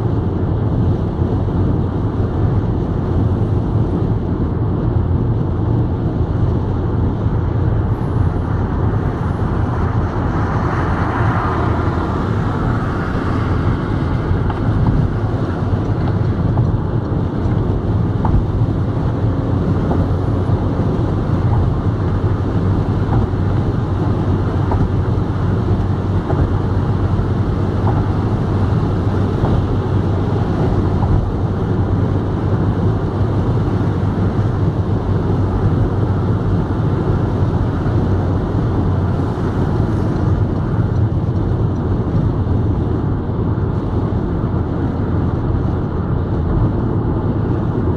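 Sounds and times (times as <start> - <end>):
tyre and engine rumble: 0.0 - 47.9
wind noise: 0.0 - 47.9.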